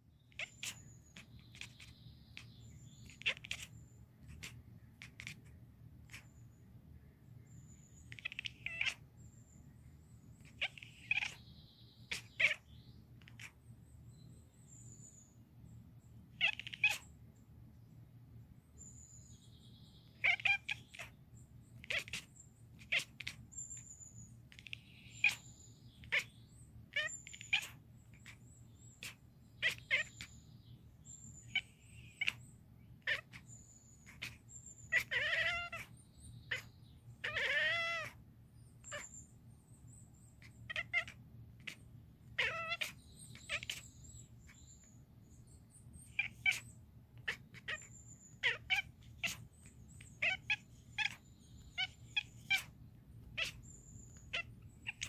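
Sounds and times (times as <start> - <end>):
kitten chattering: 0.3 - 6.4, 7.8 - 9.1, 10.4 - 13.7, 16.3 - 17.1, 20.1 - 30.4, 31.0 - 38.2, 38.8 - 39.3, 40.2 - 55.0
kitten chirrups: 0.3 - 6.4, 7.8 - 9.2, 10.4 - 13.6, 16.3 - 17.1, 20.1 - 30.4, 31.0 - 38.2, 38.8 - 39.3, 40.2 - 55.0.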